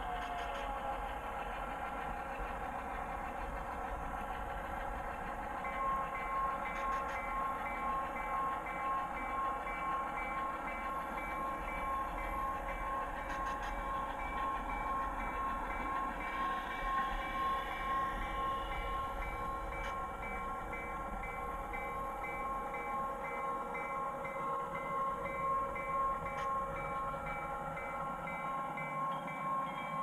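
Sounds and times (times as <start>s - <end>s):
diesel locomotive engine droning: 0.0s - 30.0s
locomotive bell ringing: 0.0s - 30.0s.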